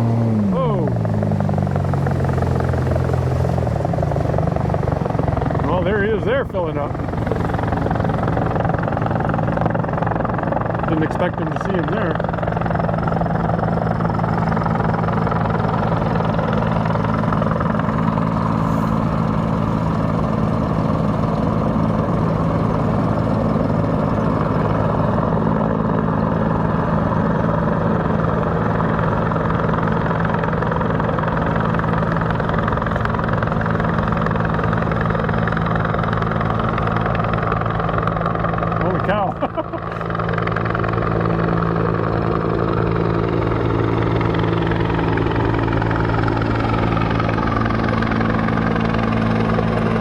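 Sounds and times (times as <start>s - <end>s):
helicopter hovering drone: 0.0s - 50.0s
idling engine hum: 0.0s - 50.0s.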